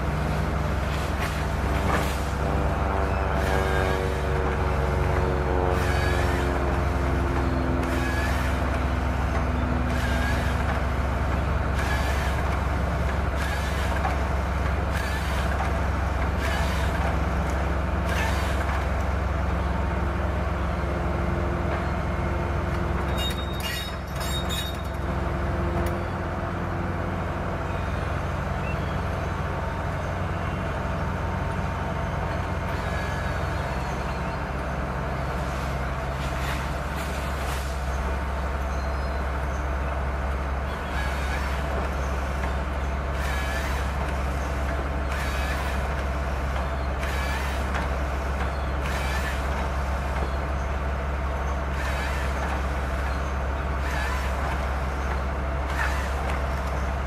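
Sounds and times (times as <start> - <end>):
diesel engine running: 0.0 - 57.0
hydraulic whine: 0.0 - 57.0.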